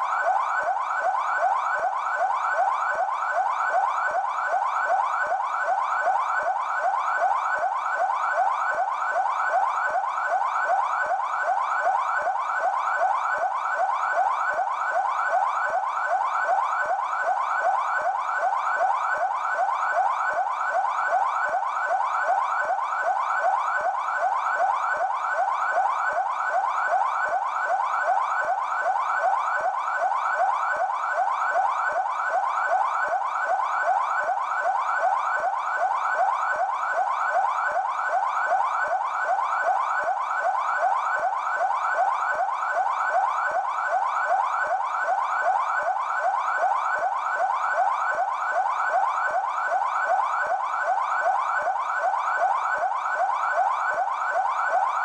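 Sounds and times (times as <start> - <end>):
police siren yelping: 0.0 - 55.0.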